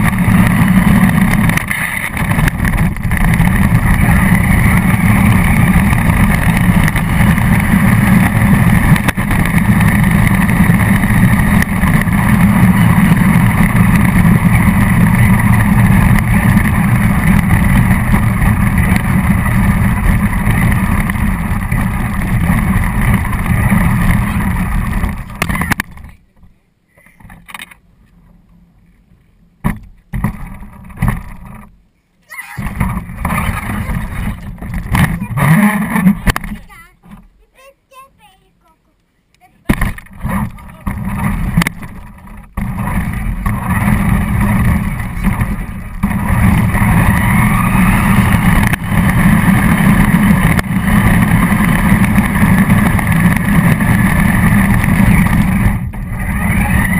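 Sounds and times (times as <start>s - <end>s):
toy car motor and rolling: 0.0s - 26.2s, 32.3s - 37.0s, 39.6s - 56.9s.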